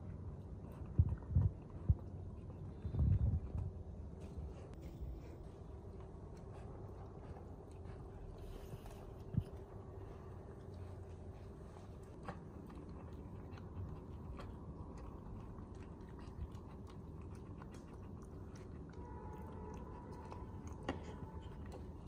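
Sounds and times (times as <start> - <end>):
low steady hum: 0.0 - 22.0
pets chewing crunchy food: 0.0 - 22.0.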